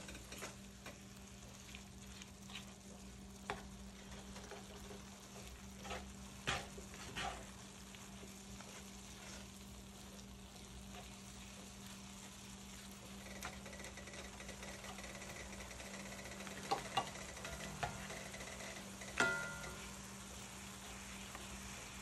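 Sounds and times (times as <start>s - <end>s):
meat sizzling in skillet: 0.0s - 22.0s
spatula scraping pan: 0.0s - 22.0s.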